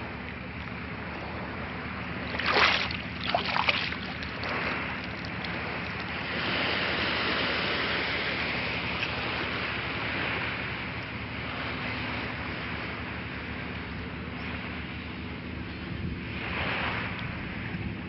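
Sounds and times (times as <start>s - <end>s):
low steady hum: 0.0s - 18.0s
seawater lapping and sloshing: 0.0s - 18.0s
water splashes: 0.0s - 18.0s.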